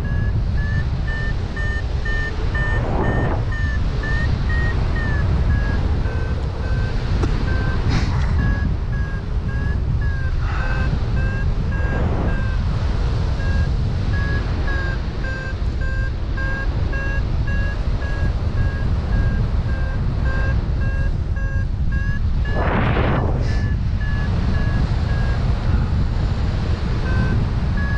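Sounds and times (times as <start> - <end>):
variometer short beeps: 0.0 - 27.9
wind noise on microphone: 0.0 - 27.9.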